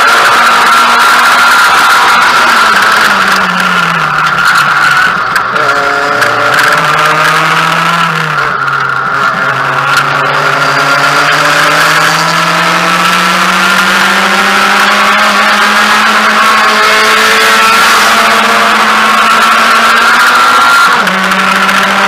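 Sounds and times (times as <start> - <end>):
car engine accelerating: 0.0 - 22.0
wind and road noise: 0.0 - 22.0.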